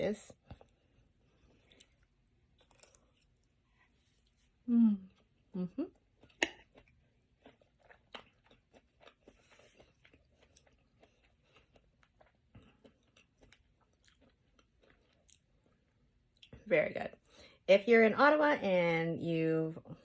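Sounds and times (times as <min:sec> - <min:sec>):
faint chewing with mouth clicks: 0:00.3 - 0:16.6.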